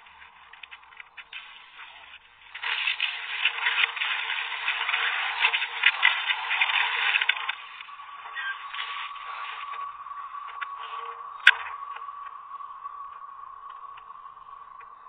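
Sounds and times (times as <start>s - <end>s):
electrical crackling and sizzling: 0.0s - 15.0s
thin steady whine: 0.0s - 15.0s.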